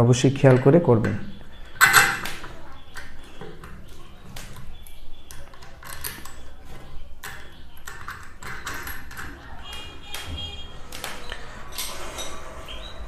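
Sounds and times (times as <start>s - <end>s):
metal fan parts clicking: 0.4s - 12.9s.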